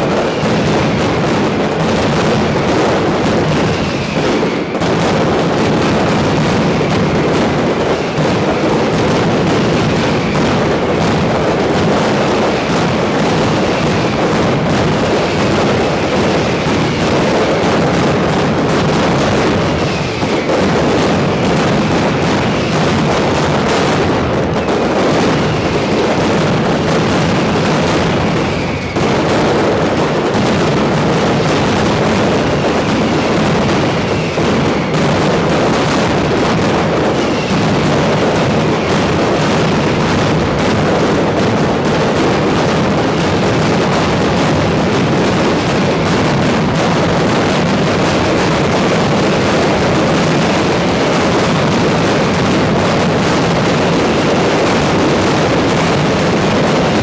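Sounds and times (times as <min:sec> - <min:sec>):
firecracker barrage: 0:00.0 - 0:57.0.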